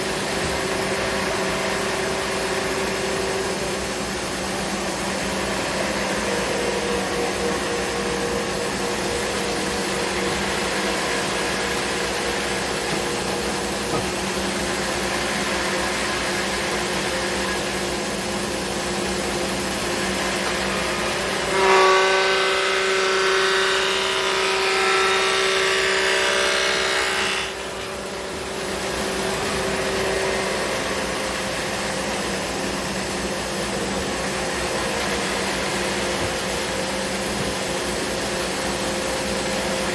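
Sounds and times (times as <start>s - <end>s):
planer cutting wood board: 0.0s - 39.9s
thickness planer running: 0.0s - 39.9s.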